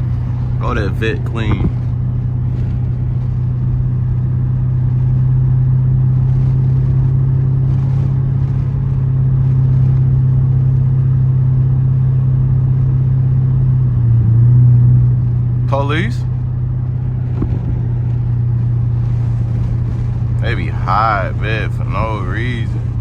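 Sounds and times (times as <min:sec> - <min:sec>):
car exhaust low drone: 0:00.0 - 0:23.0.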